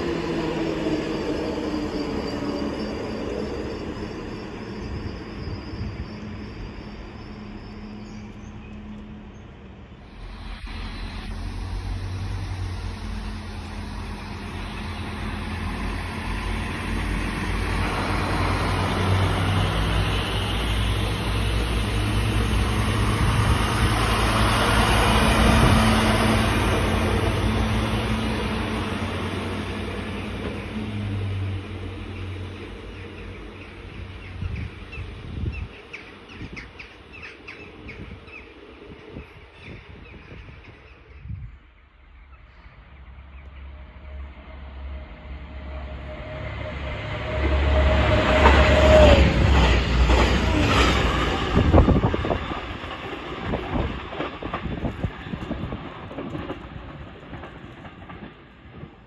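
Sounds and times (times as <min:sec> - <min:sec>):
diesel railcar passing: 0:00.0 - 0:59.0.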